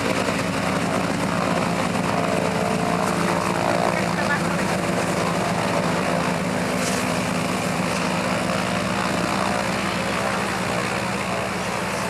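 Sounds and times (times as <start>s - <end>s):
aircraft propeller engine running: 0.0s - 12.0s.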